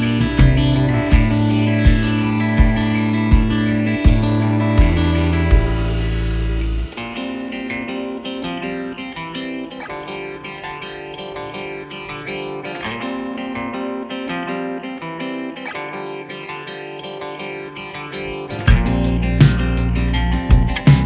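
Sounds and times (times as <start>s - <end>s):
plucked guitar melody: 0.0s - 21.0s.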